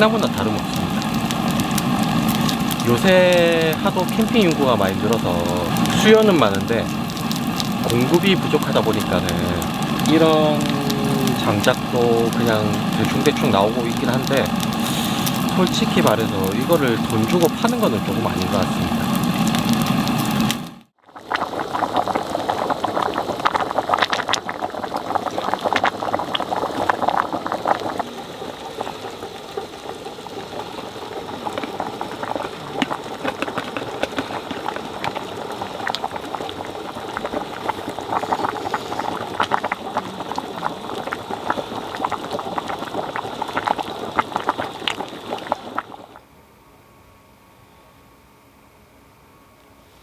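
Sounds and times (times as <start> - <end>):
fire crackling: 0.0 - 46.2
wet firewood sizzling: 0.0 - 46.2.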